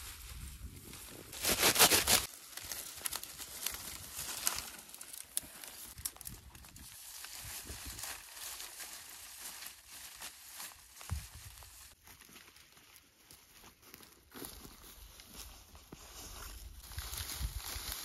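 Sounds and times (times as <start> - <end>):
dry reeds rustling and crackling: 0.0 - 18.0.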